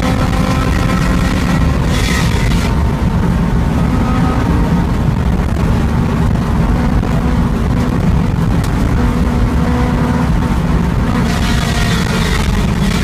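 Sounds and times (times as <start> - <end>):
car engine at high speed: 0.0 - 13.0
wind and road noise: 0.0 - 13.0.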